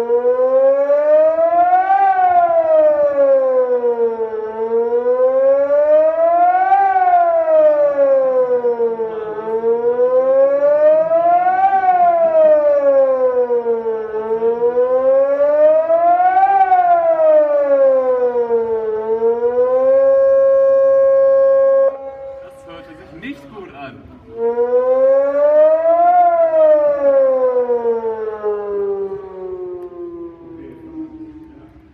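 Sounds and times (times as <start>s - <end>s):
siren howl rising and falling: 0.0s - 31.9s.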